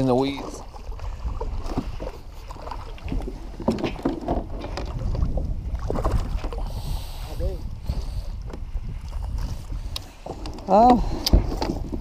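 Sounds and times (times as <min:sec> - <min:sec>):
knocks and rustles in kayak: 0:00.0 - 0:07.0, 0:07.6 - 0:12.0
wind rumbling on microphone: 0:00.0 - 0:12.0.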